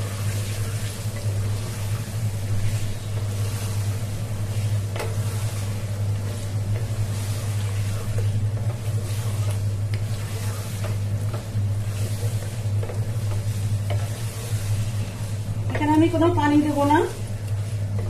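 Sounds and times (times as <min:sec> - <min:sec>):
chicken sizzling in oil: 0:00.0 - 0:18.0
spatula scraping pot: 0:00.0 - 0:18.0
steady low hum: 0:00.0 - 0:18.0.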